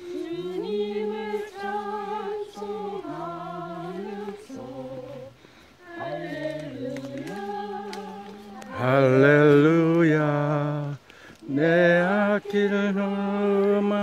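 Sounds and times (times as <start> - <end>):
group singing a hymn: 0.0 - 14.0.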